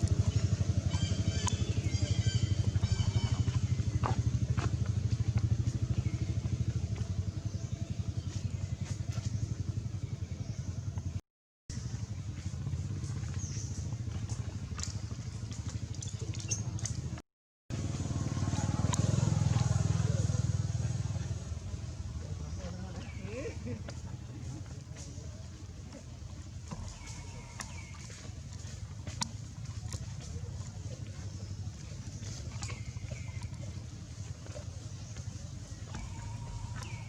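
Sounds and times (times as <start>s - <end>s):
small engine running: 0.0s - 17.0s, 17.7s - 25.3s, 25.9s - 37.0s.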